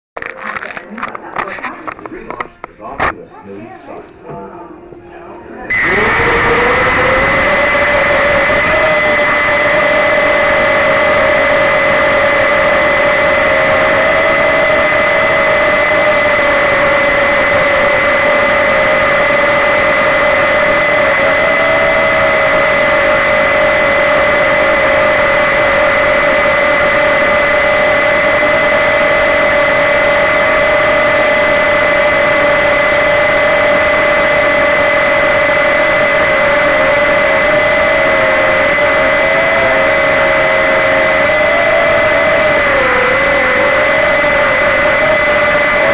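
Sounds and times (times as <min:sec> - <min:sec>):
quadcopter propellers whining: 0:05.7 - 0:45.9.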